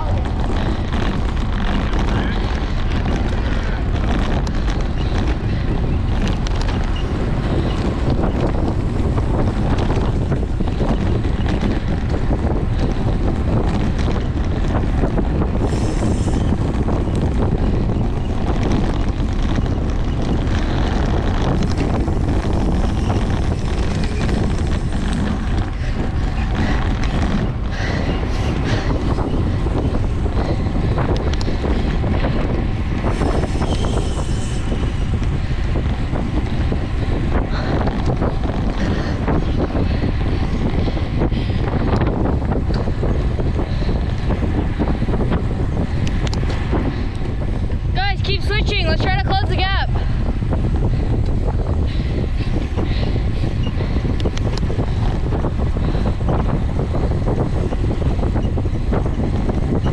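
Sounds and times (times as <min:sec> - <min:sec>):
bicycle clicks and rattles: 0:00.0 - 0:48.0, 0:48.6 - 0:59.9
road and tyre rumble: 0:00.0 - 0:59.9
wind buffeting microphone: 0:00.0 - 0:59.9.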